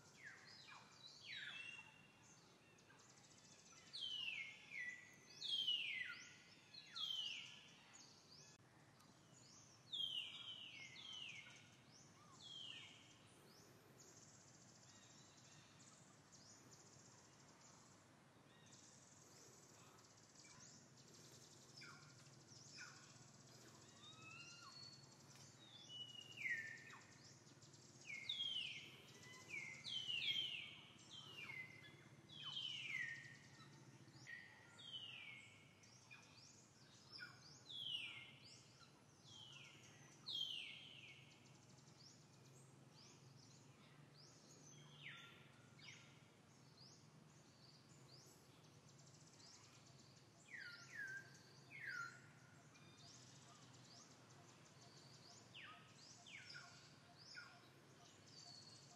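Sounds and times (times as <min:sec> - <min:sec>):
faint low hum: 0:06.3 - 0:58.9.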